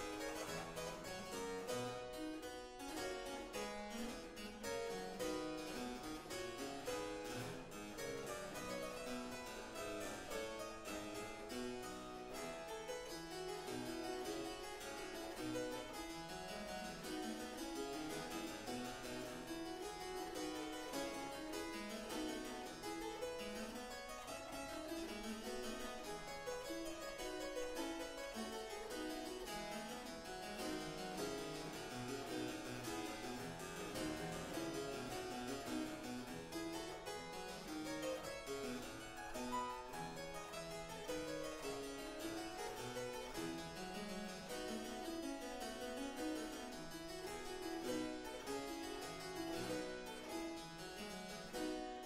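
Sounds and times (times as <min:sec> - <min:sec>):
harpsichord playing: 0:00.0 - 0:52.0.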